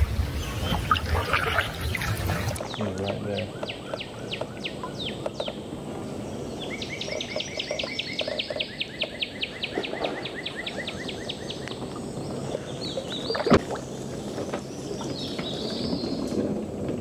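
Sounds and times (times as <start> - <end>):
low outdoor noise: 0.0 - 17.0.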